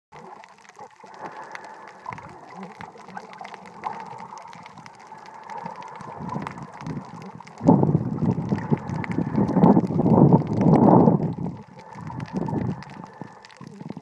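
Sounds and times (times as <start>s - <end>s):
quiet underwater wash: 0.1s - 14.0s
water rushing against camera: 0.1s - 14.0s.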